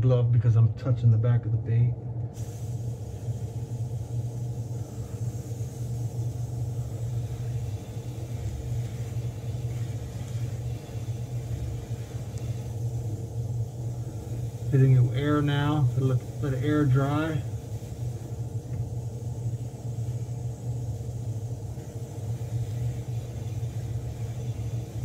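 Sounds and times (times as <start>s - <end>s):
low hum: 0.0s - 25.0s
airbrush spraying hiss: 2.3s - 25.0s.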